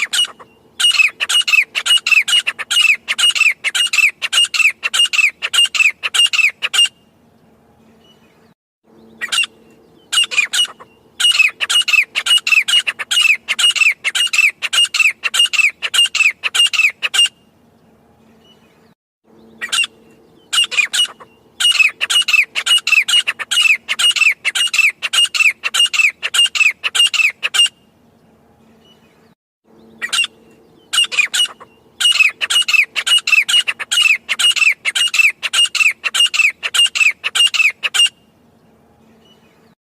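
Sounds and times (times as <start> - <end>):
francolin calling: 0.0 - 7.0, 8.9 - 17.5, 19.3 - 27.8, 29.7 - 38.3.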